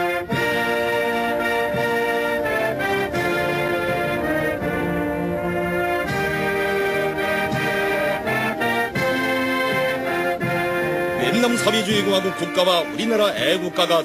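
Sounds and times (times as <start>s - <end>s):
brass band playing held chords: 0.0s - 14.0s.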